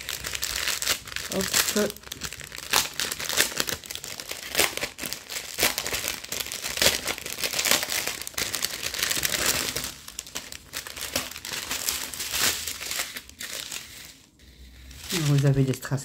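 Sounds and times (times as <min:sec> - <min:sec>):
plastic packets crinkling: 0:00.0 - 0:16.0.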